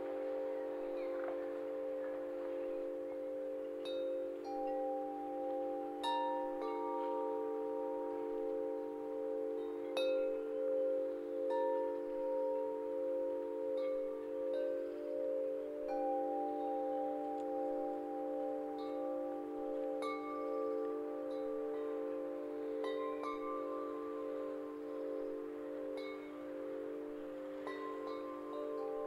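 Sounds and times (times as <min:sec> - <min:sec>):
low sustained tones humming: 0:00.0 - 0:29.0
wind chimes ringing: 0:00.0 - 0:29.0.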